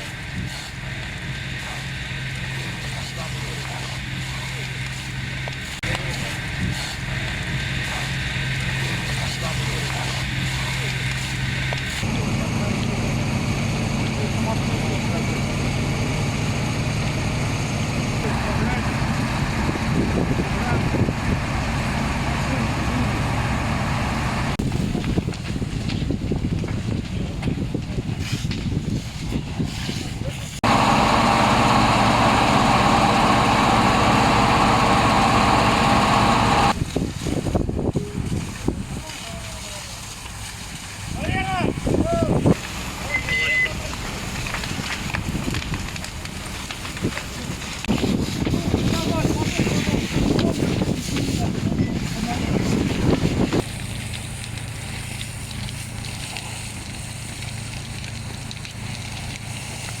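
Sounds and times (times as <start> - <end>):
engine running steadily: 0.0 - 60.0
loud jumble of noise: 0.0 - 60.0.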